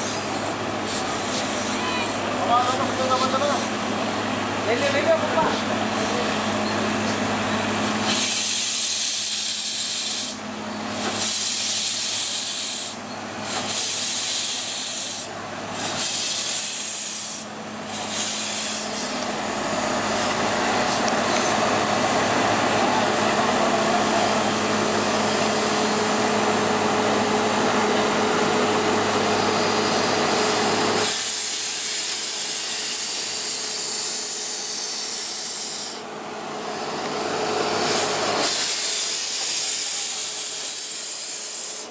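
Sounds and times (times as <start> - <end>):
steam locomotive hissing steam: 0.0 - 4.1, 4.8 - 41.9.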